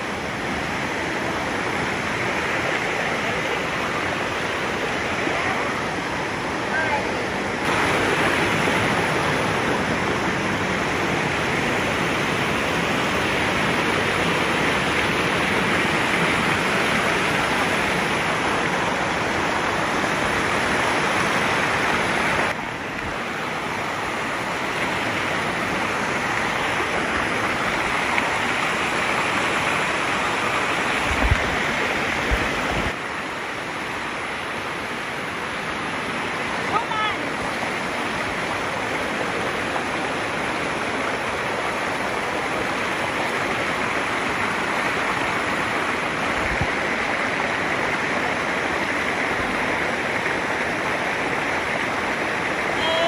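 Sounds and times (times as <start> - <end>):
waterfall rushing over rocks: 0.0 - 53.0.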